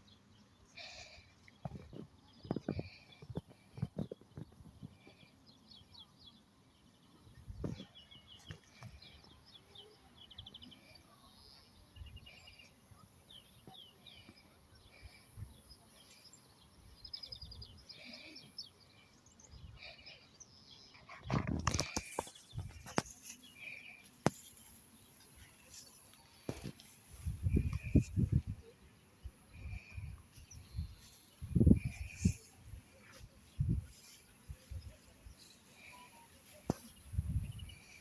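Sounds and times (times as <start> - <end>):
small birds chirping and trilling: 0.0 - 38.0.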